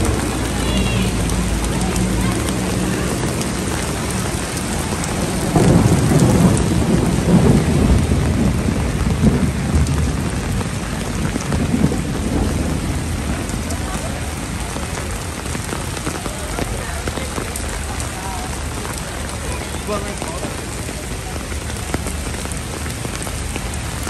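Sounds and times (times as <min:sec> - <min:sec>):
heavy rain on wet pavement: 0:00.0 - 0:24.0
thunder rumbling: 0:00.0 - 0:24.0.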